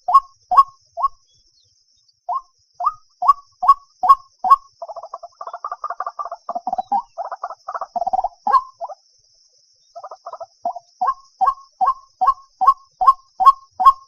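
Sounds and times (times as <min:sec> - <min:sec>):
waterhen calling: 0:00.0 - 0:01.2, 0:02.3 - 0:09.0, 0:10.0 - 0:14.0.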